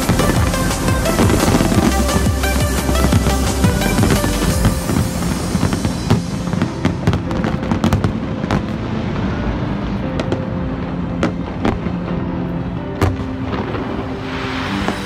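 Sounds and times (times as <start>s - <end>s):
fireworks bangs and crackles: 0.0s - 15.0s
music: 0.0s - 15.0s.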